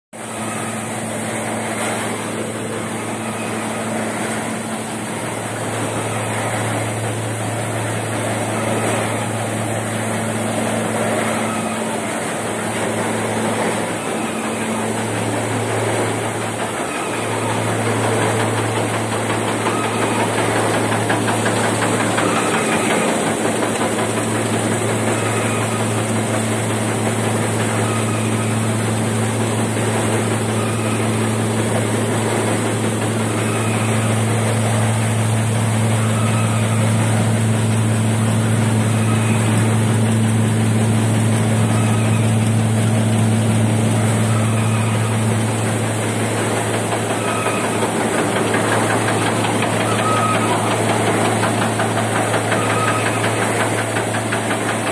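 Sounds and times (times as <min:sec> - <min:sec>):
seed cleaner machine humming: 0:00.2 - 0:54.9.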